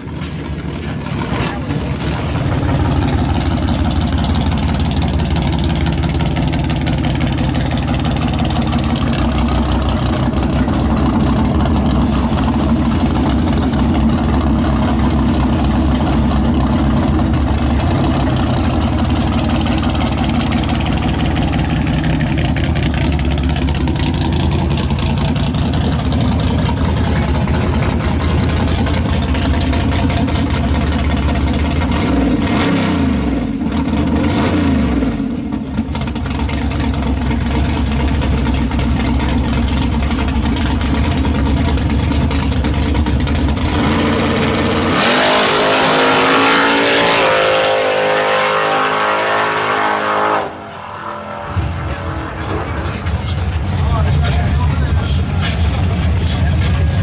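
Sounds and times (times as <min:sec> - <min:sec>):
truck engine idling: 0:00.0 - 0:32.4, 0:35.2 - 0:44.9, 0:51.2 - 0:57.0.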